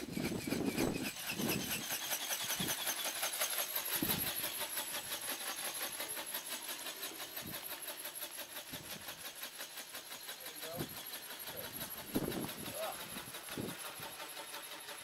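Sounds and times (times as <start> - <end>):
pulsing motor whine: 0.0 - 15.0.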